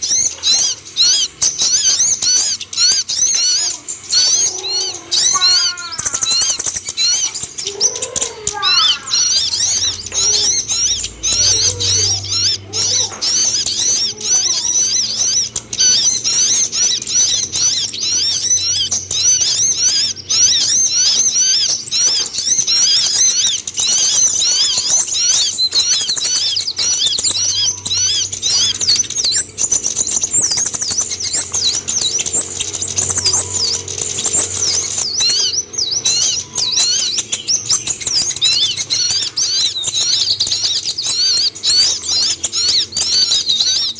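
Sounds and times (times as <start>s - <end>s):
bird singing high chirps: 0.0s - 43.9s.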